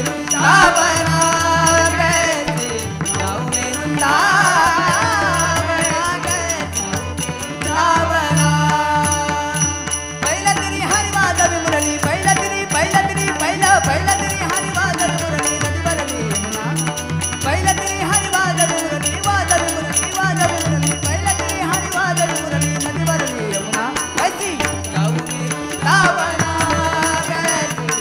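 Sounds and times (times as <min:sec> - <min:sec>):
jingling cymbals: 0:00.0 - 0:28.0.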